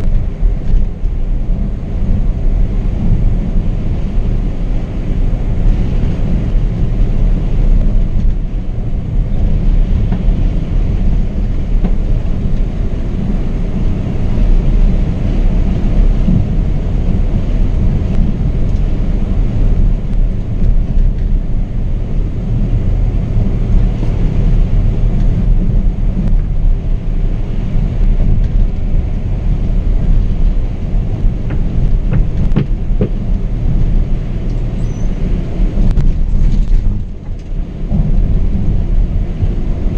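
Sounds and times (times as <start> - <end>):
coach engine and road noise: 0.0 - 39.9.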